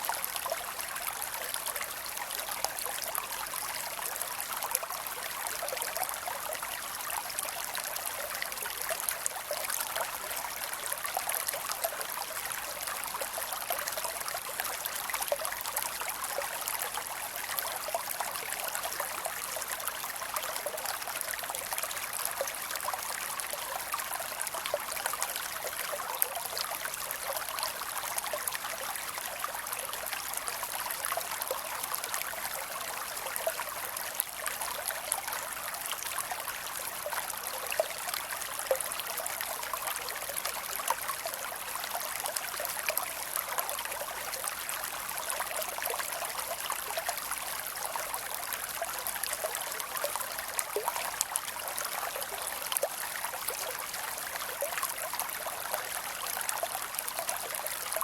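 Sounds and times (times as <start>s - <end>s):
creek water flowing over rocks: 0.0s - 58.0s.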